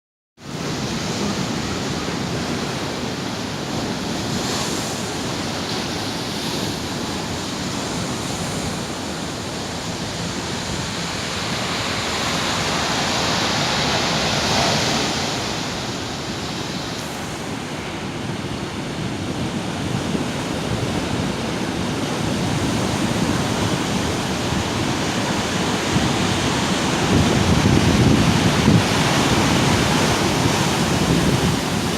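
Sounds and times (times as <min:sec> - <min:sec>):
surf breaking on shore: 0:00.4 - 0:31.9
wind buffeting microphone: 0:00.5 - 0:31.9.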